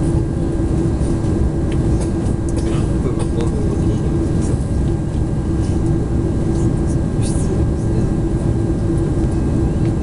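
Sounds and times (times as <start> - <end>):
aircraft engines rumbling: 0.0 - 10.0
steady hum: 0.0 - 10.0.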